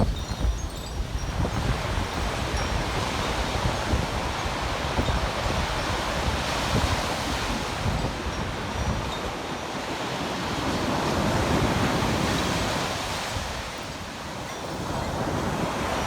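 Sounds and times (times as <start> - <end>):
wind buffeting microphone: 0.0 - 16.0
sea surf washing onto beach: 1.0 - 16.0.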